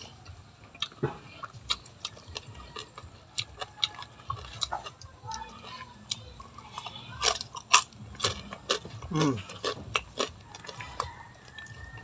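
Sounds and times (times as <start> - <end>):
crunchy food chewing: 0.0 - 12.0.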